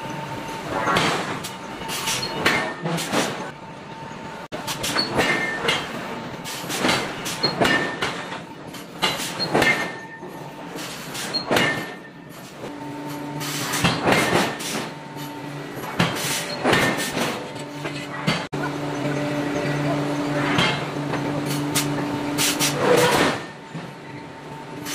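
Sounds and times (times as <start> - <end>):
metallic clanks and scrapes: 0.6 - 3.5, 4.6 - 19.7, 20.3 - 24.0.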